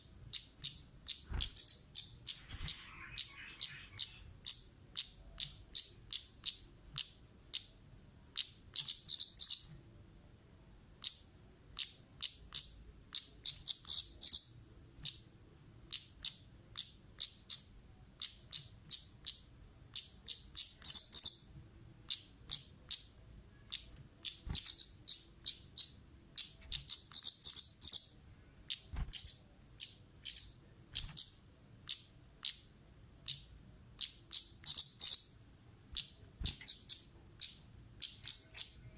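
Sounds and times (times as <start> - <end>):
songbird chirping: 0.0 - 10.0, 10.9 - 38.9.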